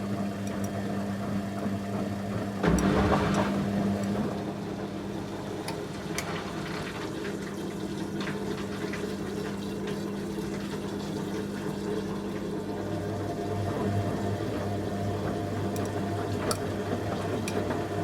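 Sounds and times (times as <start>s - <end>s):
washing machine hum: 0.0s - 18.0s.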